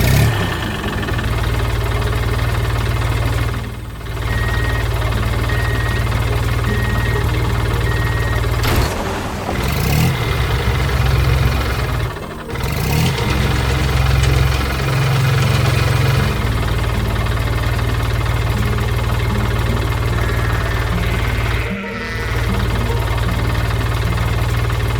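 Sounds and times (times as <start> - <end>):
machine engine idling: 0.0 - 24.9.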